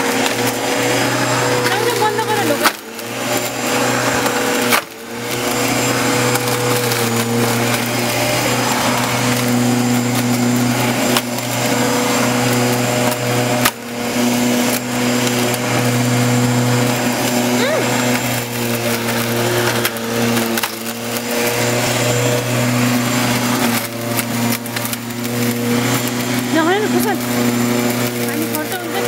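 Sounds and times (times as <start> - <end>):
electric lawnmower cutting grass: 0.0 - 29.0.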